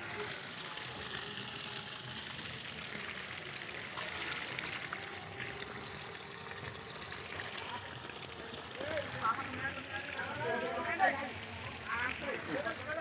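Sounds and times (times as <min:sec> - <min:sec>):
water flowing: 0:00.0 - 0:13.0.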